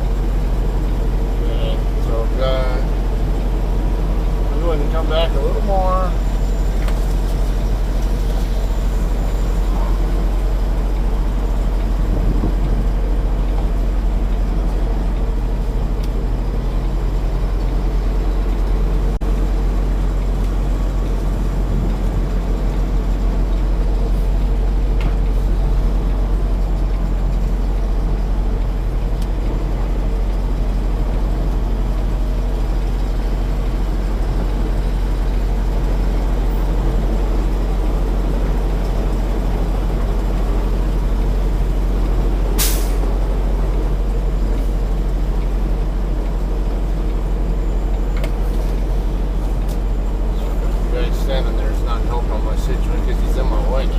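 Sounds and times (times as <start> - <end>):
truck diesel engine low drone: 0.0 - 53.9.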